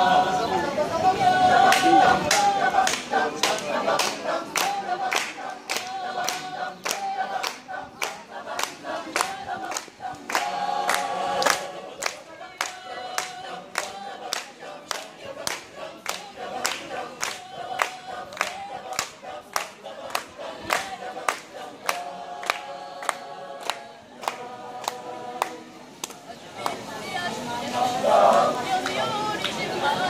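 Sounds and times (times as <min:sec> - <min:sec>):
choir singing: 0:00.0 - 0:30.0
audience clapping in time: 0:01.6 - 0:26.8.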